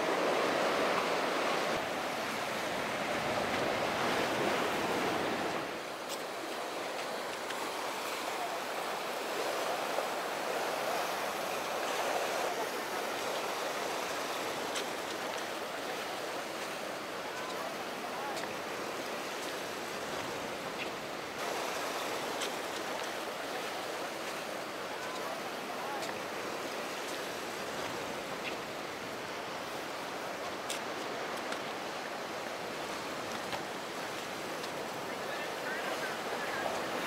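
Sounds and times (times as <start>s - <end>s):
surf and breaking waves: 0.0s - 37.0s.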